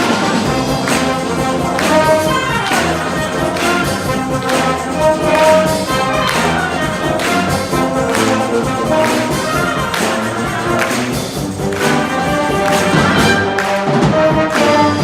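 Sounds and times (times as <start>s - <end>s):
brass instruments: 0.0s - 15.0s
percussion hits: 0.0s - 15.0s
wind band playing: 0.0s - 15.0s.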